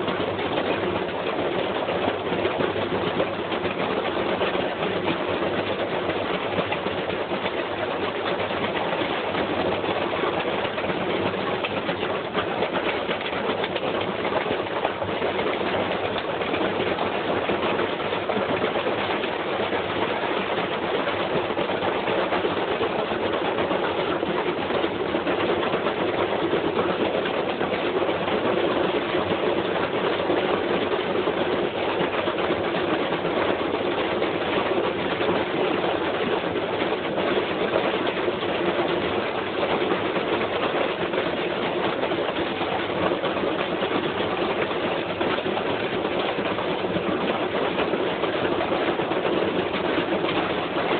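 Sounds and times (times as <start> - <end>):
washing machine running: 0.0 - 50.9.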